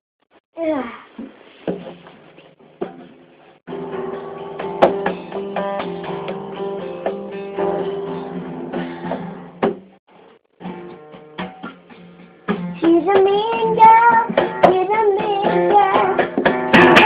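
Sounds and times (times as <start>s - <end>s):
plucked and strummed string music: 2.8s - 17.0s.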